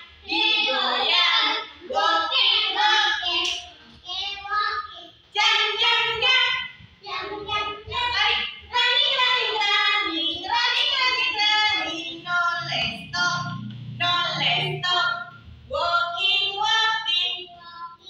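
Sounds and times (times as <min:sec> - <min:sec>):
young children singing: 0:00.0 - 0:18.0.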